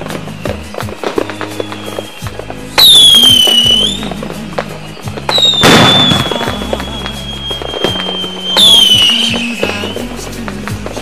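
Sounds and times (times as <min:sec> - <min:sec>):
background music: 0:00.0 - 0:11.0
firework bang: 0:00.0 - 0:11.0
firework whistles: 0:00.0 - 0:11.0.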